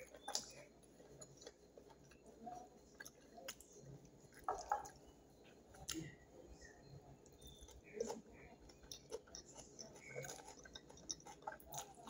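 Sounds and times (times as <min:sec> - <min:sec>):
mouth chewing: 0:00.0 - 0:06.2, 0:07.2 - 0:12.0
fingers squishing soft food: 0:00.0 - 0:12.0.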